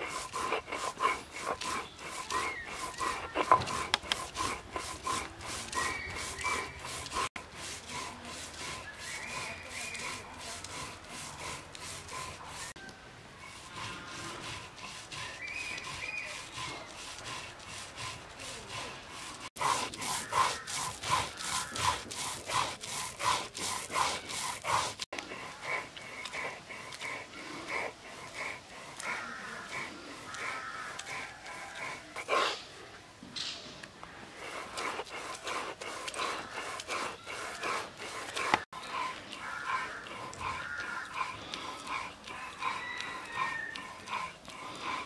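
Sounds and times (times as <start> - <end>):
stone roller grinding on slab: 0.0 - 12.8, 13.4 - 32.6, 34.3 - 45.0.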